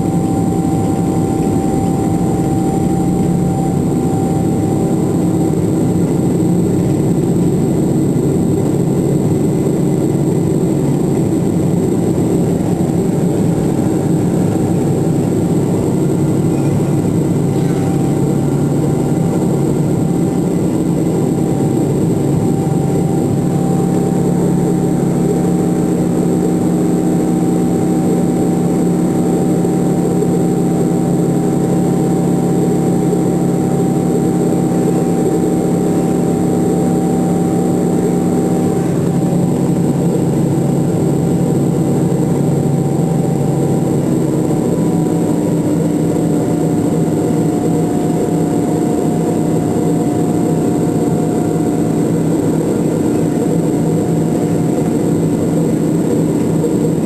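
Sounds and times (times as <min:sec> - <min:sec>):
high engine whine: 0:00.0 - 0:57.0
jet engine drone in cabin: 0:00.0 - 0:57.0.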